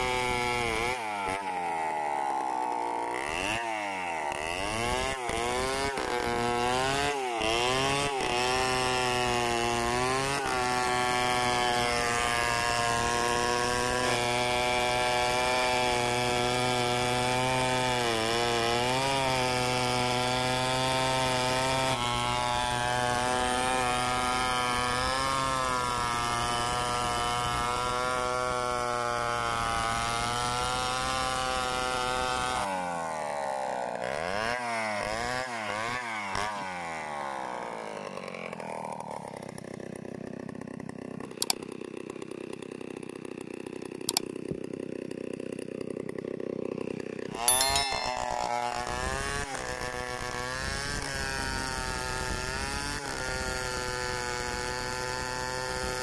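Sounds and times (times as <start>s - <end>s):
chainsaw engine revving: 0.0s - 47.8s, 48.4s - 56.0s
chainsaw cutting a log: 0.0s - 56.0s.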